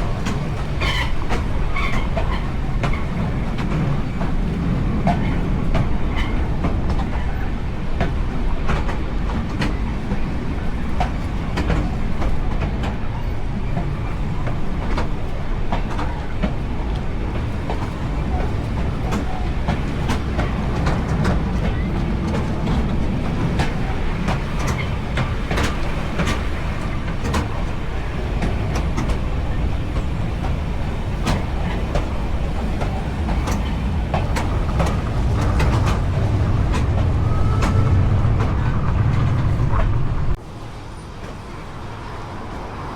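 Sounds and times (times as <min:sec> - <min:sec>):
wheels clicking over rail joints: 0:00.0 - 0:42.9
wheels rumbling on rail: 0:00.0 - 0:42.9.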